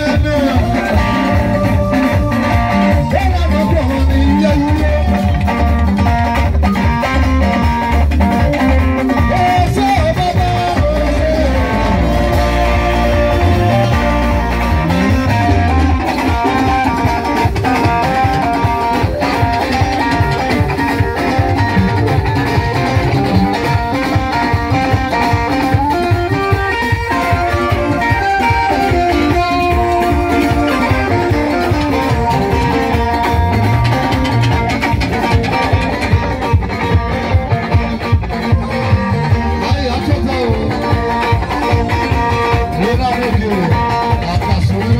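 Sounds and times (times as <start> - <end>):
bass line: 0.0 - 44.9
electric guitars playing: 0.0 - 44.9
steady drum beat: 0.0 - 44.9.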